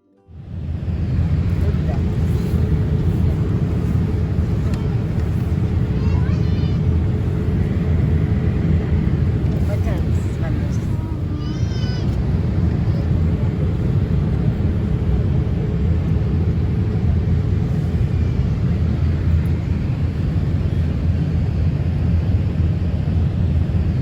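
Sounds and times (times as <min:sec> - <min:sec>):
airliner cabin engine rumble: 0:00.4 - 0:24.0.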